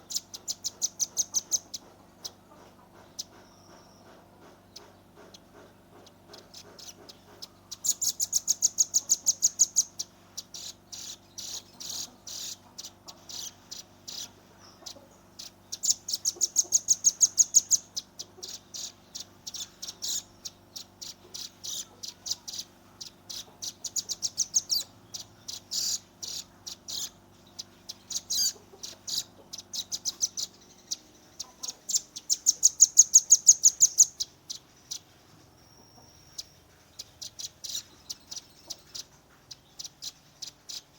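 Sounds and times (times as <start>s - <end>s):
bird high-pitched trills: 0.0s - 2.4s, 6.1s - 40.9s.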